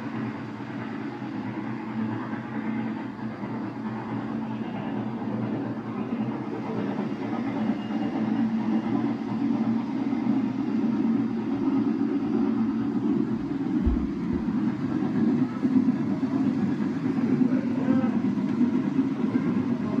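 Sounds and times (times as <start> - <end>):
model trains rumbling: 0.0 - 20.0.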